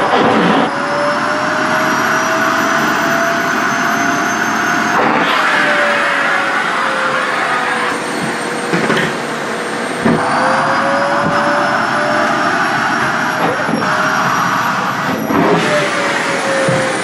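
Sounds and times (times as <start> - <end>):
vacuum cleaner motor whine: 0.0 - 17.0.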